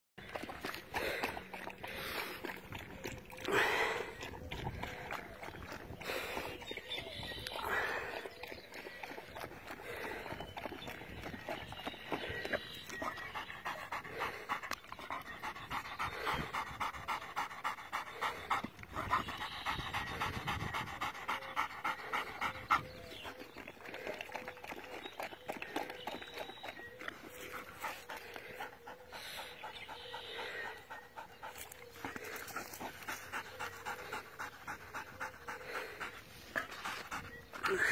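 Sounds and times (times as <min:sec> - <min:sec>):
dog panting: 0:00.2 - 0:37.9.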